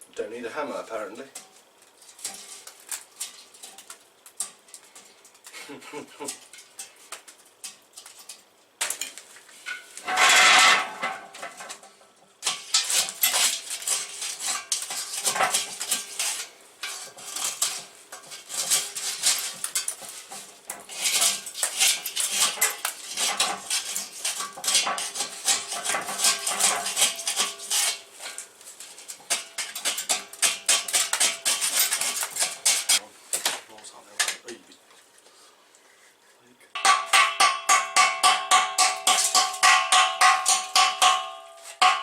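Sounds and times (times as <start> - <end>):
metal scraping and clinking: 1.4 - 5.4, 6.2 - 33.0, 36.8 - 42.0.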